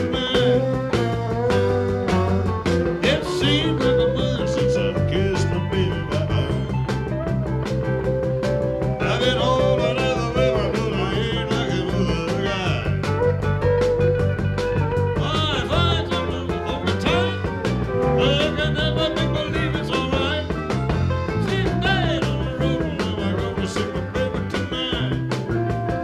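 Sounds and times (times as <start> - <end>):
music with guitar and singing: 0.0 - 26.0.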